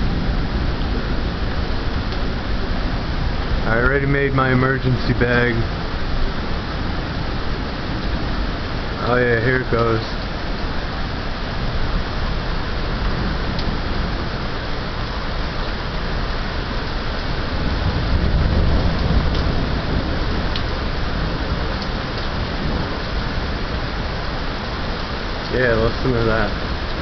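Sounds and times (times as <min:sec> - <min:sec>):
heavy rain pouring: 0:00.0 - 0:27.0
thunder rumble: 0:00.0 - 0:27.0.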